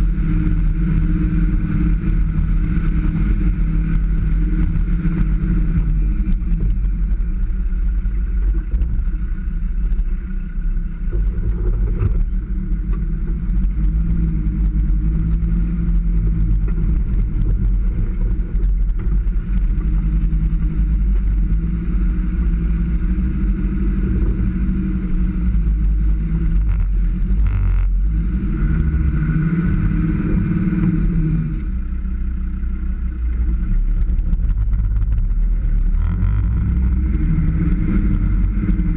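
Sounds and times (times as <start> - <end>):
car engine revving under load: 0.0 - 38.9
heavy low rumble: 0.0 - 38.9.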